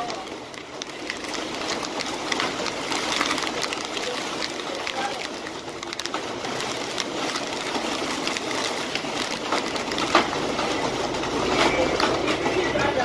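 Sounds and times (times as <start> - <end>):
heavy wind-driven rain: 0.0 - 13.0.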